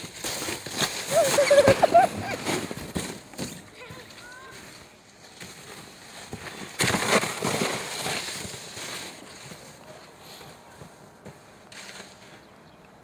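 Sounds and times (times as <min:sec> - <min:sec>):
sled sliding over packed snow: 0:00.0 - 0:12.5.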